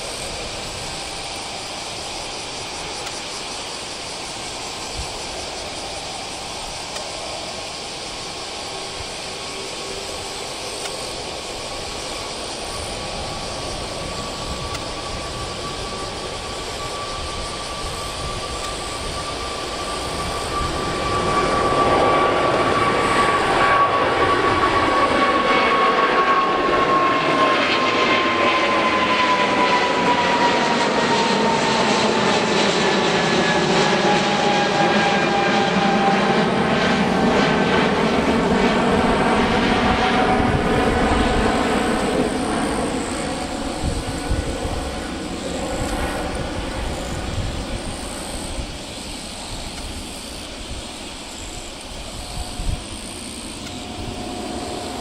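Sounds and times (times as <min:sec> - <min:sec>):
jet engines whining and roaring: 0:00.0 - 0:55.0.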